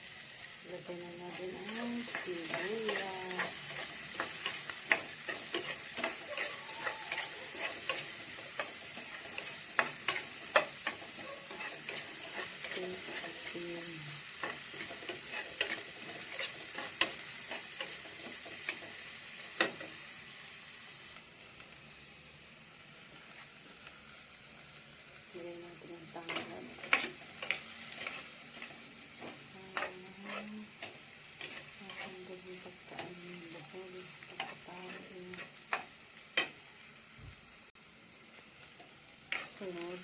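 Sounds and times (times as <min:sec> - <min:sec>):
onion sizzling in a pan: 0:00.0 - 0:40.0.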